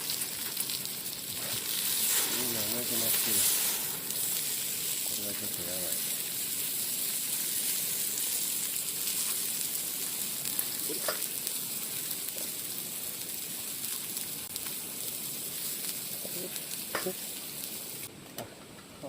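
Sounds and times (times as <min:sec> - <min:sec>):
food sizzling on griddle: 0:00.0 - 0:18.1.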